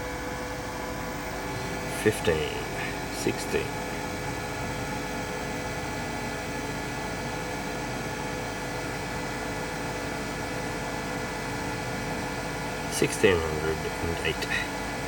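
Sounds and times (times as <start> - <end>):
cooling fans hum and whine: 0.0 - 15.0.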